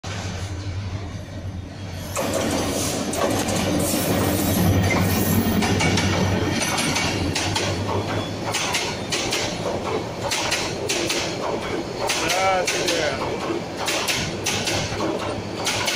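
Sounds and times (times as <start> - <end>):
diesel locomotive engine drone: 0.0 - 15.9
train wheels clacking over rail joints: 2.0 - 15.9.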